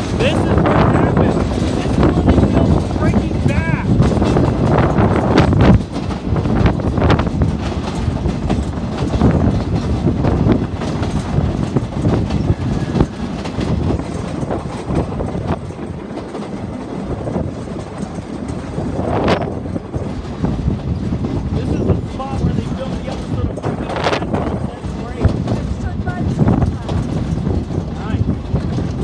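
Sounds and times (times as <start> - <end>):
loud train clank: 0.0 - 29.0
train rumbling on rails: 0.0 - 29.0
wheels clacking over track: 0.0 - 29.0.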